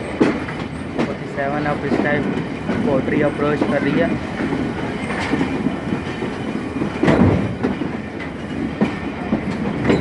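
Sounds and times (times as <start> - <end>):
train rumble: 0.0 - 10.0
wheels clattering over rail joints: 0.0 - 10.0.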